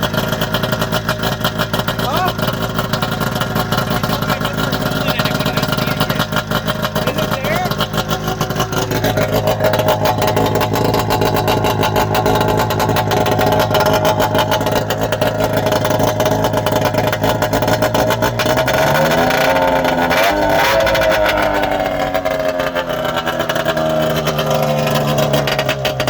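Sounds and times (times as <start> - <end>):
snowmobile engine running and revving: 0.0 - 26.0.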